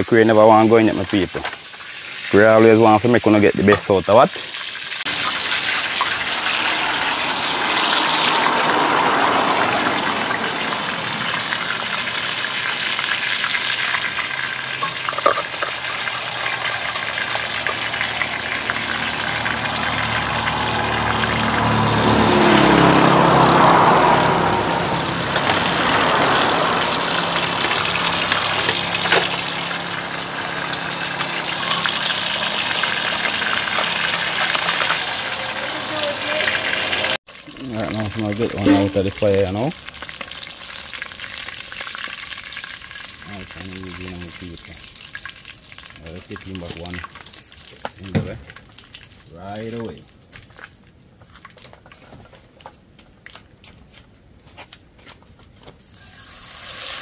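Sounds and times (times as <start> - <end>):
hot oil sizzling: 0.0 - 52.0, 55.8 - 57.0.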